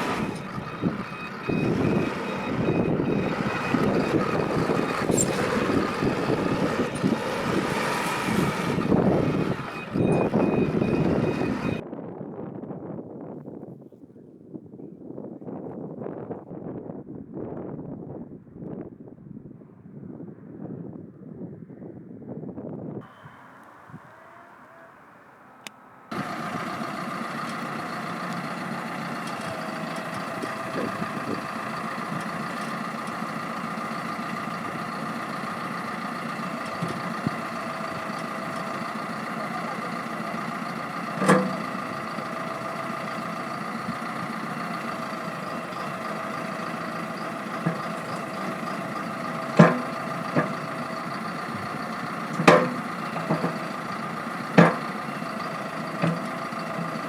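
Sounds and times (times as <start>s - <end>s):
backhoe engine whining: 0.0s - 11.8s, 23.0s - 57.0s.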